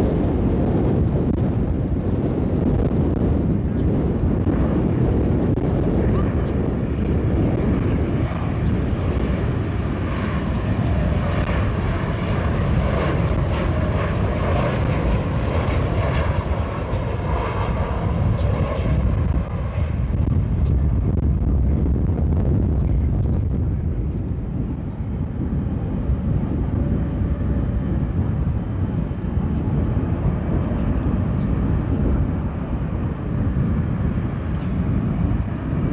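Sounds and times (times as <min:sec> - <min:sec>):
jet airliner engines rumbling: 0:00.0 - 0:35.9.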